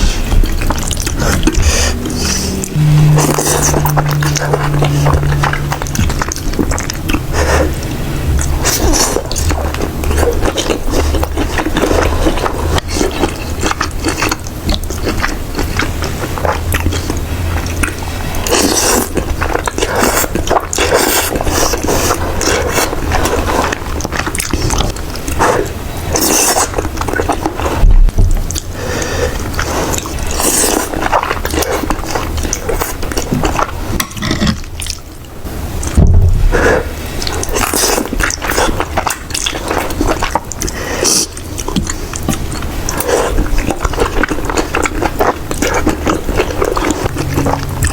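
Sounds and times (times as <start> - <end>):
wet chewing and crunching: 0.0 - 47.9.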